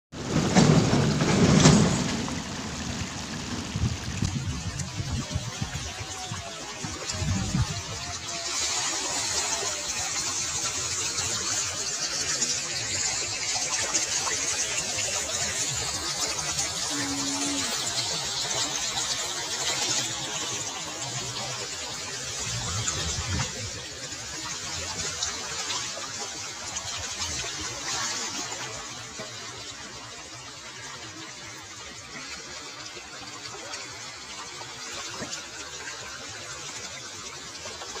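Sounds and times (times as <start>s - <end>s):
shallow water rushing: 0.2s - 38.0s.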